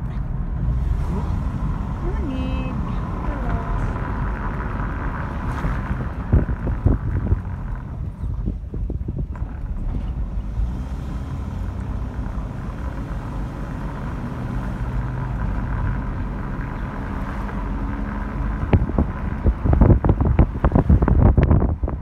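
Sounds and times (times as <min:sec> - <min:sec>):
road and engine rumble: 0:00.0 - 0:22.0
wind buffeting microphone: 0:00.0 - 0:22.0.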